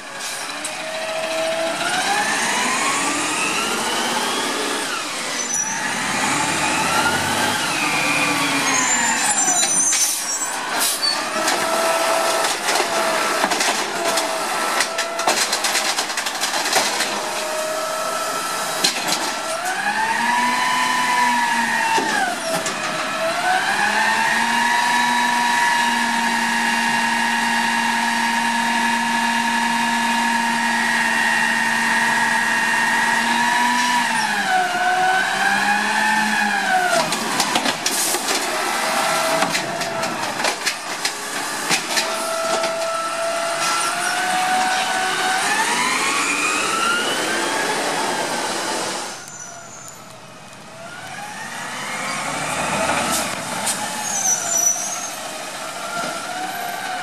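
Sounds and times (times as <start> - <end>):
garbage truck engine: 0.0 - 57.0.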